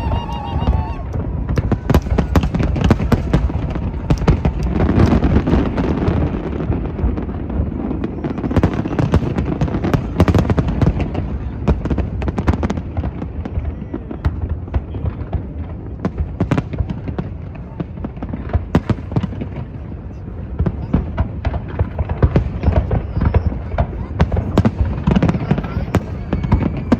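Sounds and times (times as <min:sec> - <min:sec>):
fireworks bangs and crackles: 0:00.0 - 0:26.9.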